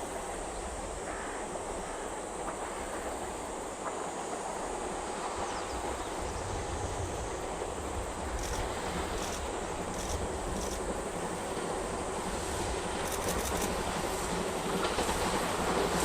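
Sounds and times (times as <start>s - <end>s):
steam locomotive rumbling: 0.0s - 16.0s.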